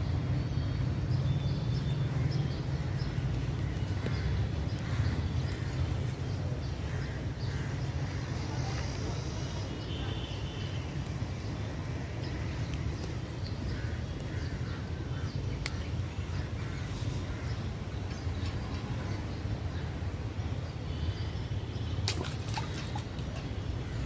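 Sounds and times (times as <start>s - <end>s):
birds calling: 1.6s - 24.0s.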